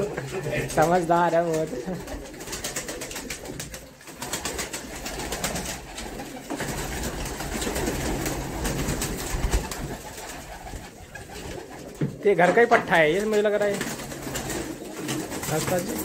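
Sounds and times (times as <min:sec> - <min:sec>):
pigeons flapping wings: 0:00.0 - 0:16.0
pigeons cooing: 0:01.4 - 0:12.0, 0:13.2 - 0:16.0.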